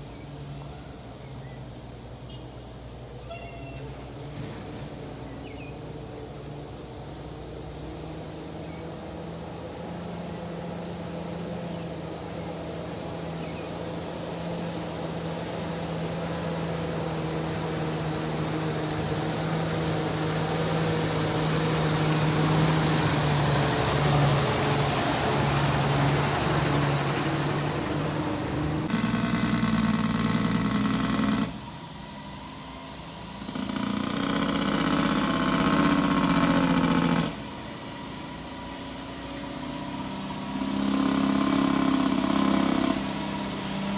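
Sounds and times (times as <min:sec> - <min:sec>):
truck engine running: 0:03.9 - 0:43.9.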